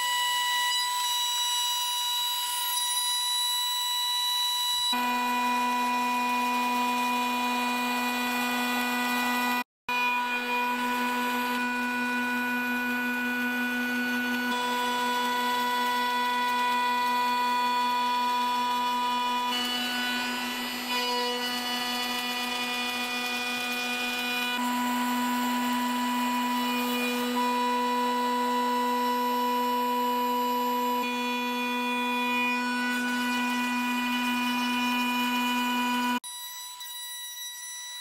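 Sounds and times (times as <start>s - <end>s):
router spindle whining: 0.0s - 36.2s
cutter chipping wood: 4.9s - 36.2s.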